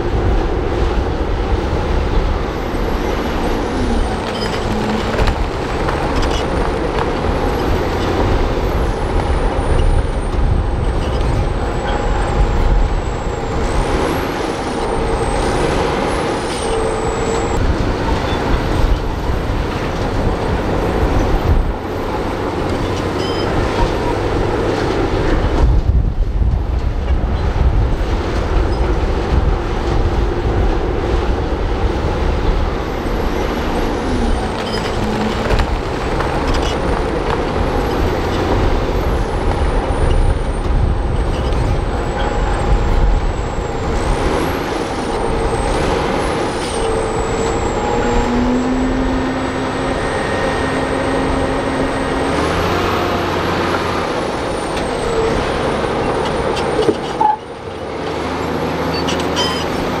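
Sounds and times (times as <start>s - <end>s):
bulldozer diesel engine under load: 0.0s - 60.0s.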